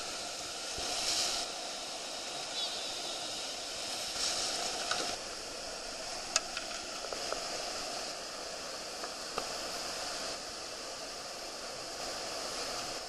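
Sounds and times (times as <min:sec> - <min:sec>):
water rushing over weir: 0:00.0 - 0:13.0.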